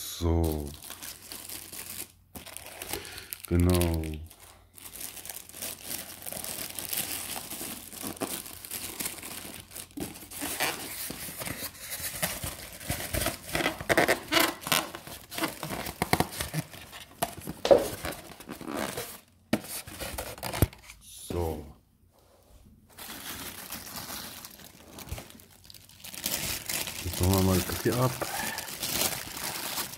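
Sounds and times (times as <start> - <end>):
packaging crinkling and rustling: 0.3 - 20.9, 22.9 - 29.9.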